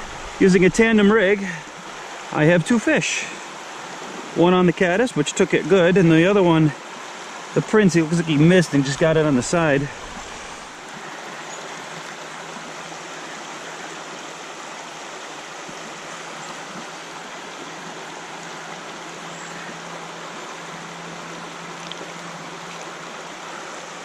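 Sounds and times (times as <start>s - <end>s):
river water rushing over stones: 0.0s - 24.0s.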